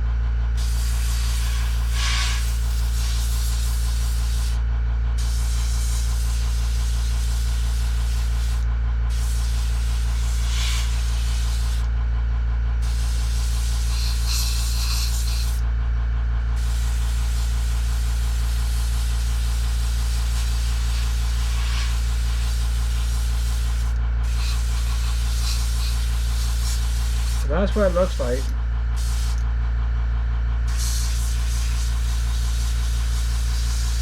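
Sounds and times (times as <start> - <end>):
air compressor humming: 0.0 - 34.0
airbrush spraying hiss: 0.6 - 4.6, 5.2 - 11.8, 12.8 - 15.6, 16.6 - 29.4, 30.7 - 34.0.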